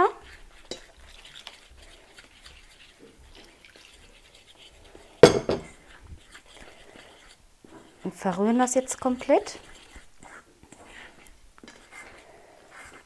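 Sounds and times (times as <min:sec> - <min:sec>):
fork mixing in a bowl: 0:00.0 - 0:13.0.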